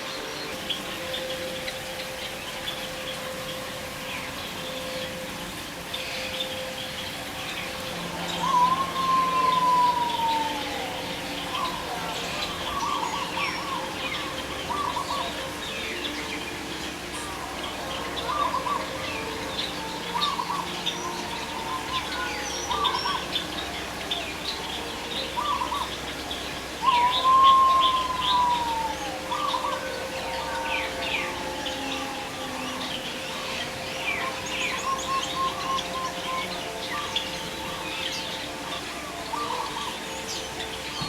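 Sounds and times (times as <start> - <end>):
birds chirping: 0.0 - 41.0
loud long whistled bird call: 0.0 - 41.0.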